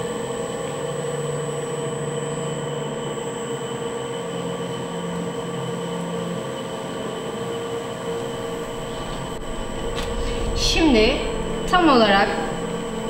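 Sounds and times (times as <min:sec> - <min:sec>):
pottery wheel motor humming: 0:00.0 - 0:13.0.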